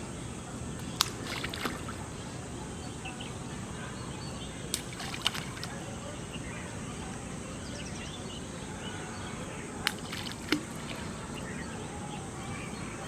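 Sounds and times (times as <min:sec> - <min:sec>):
faint bird chirps: 0:00.0 - 0:13.0
steady background hiss: 0:00.0 - 0:13.0.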